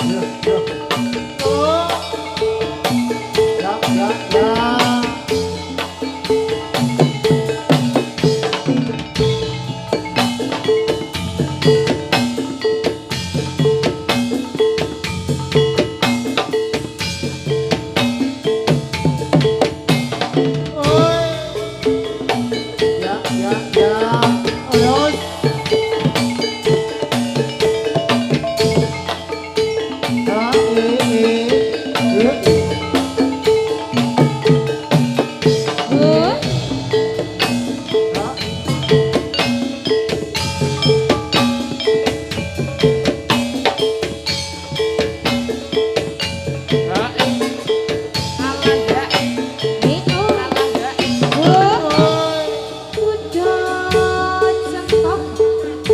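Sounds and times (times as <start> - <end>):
drums in steady rhythm: 0.0 - 55.9
metallophones ringing: 0.0 - 55.9.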